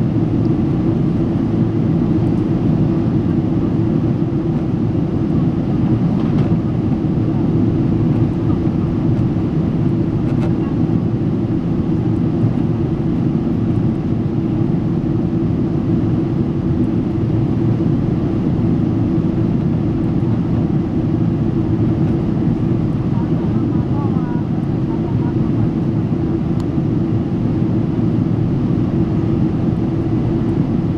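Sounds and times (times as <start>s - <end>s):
airplane cabin rumble: 0.0s - 30.9s.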